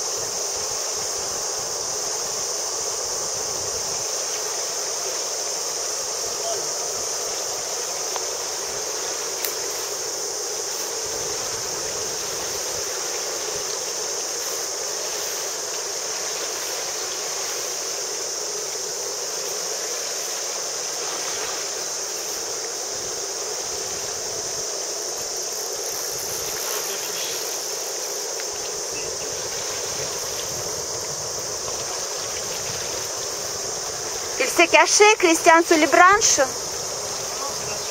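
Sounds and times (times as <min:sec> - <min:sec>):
high-pitched hiss: 0:00.0 - 0:37.9
river flowing over stones: 0:00.0 - 0:37.9.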